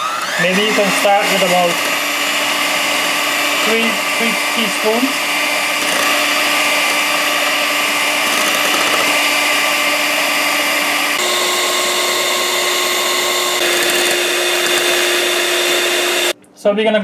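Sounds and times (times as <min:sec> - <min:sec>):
electric hand mixer whipping: 0:00.0 - 0:16.4.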